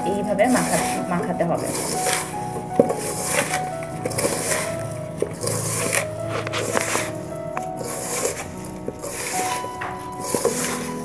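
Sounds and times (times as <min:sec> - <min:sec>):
background music held notes: 0:00.0 - 0:11.0
hand kneading coconut in metal bowl: 0:00.0 - 0:11.0.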